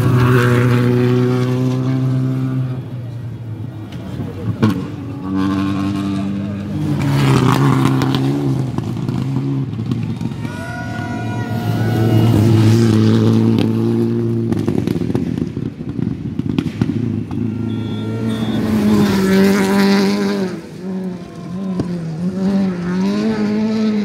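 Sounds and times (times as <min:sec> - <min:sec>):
rally car engine: 0:00.0 - 0:10.7, 0:11.3 - 0:24.0.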